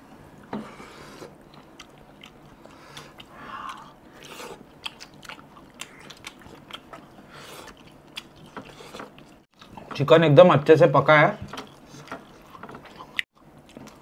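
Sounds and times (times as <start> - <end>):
people chewing and lip smacking: 0.4 - 10.0, 11.4 - 14.0.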